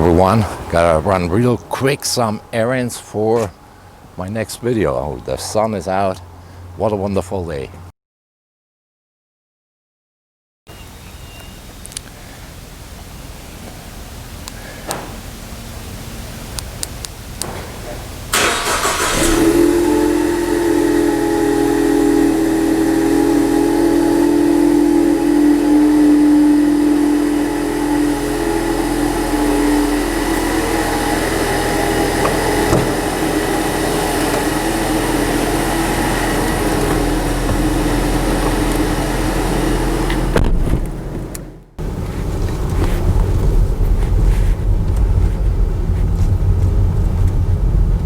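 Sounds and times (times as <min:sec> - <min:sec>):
car engine starting and idling: 0:00.0 - 0:06.8, 0:11.8 - 0:48.0.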